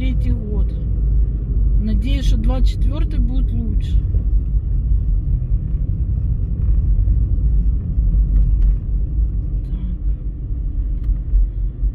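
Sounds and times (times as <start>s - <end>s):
car engine and road rumble: 0.0s - 11.9s.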